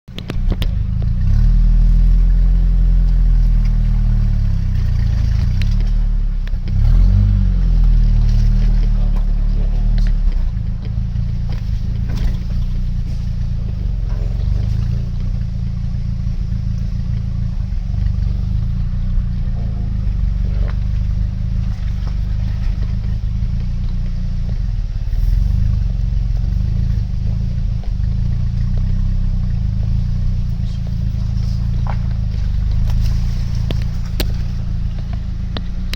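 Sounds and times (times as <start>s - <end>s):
vehicle engine and road drone: 0.0s - 35.9s.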